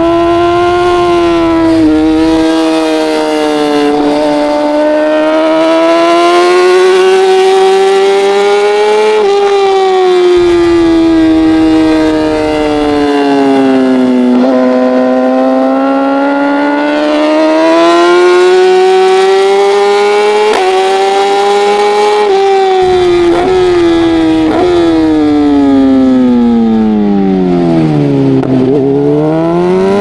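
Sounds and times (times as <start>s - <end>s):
racing motorcycle engine revving: 0.0s - 30.0s.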